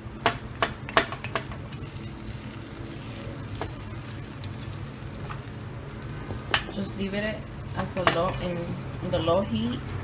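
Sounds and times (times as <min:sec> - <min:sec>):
rice sizzling: 0:00.0 - 0:10.0.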